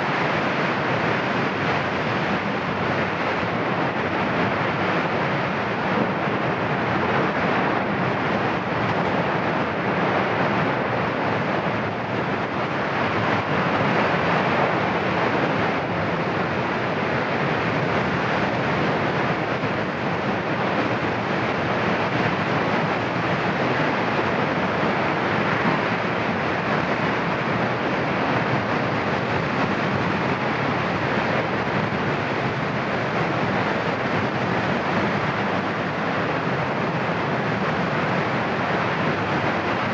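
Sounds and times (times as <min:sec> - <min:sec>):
volcano roaring: 0:00.0 - 0:39.9.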